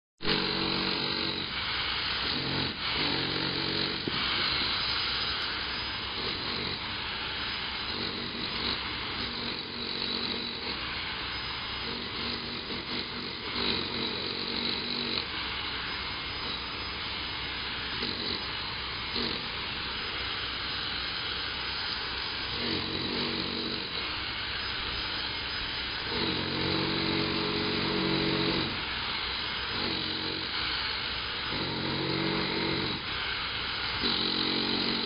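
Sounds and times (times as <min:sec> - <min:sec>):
power tool grinding concrete: 0:00.2 - 0:35.0.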